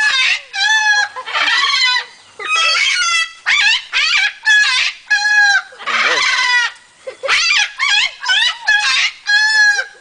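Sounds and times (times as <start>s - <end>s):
parrot calling: 0.0s - 10.0s.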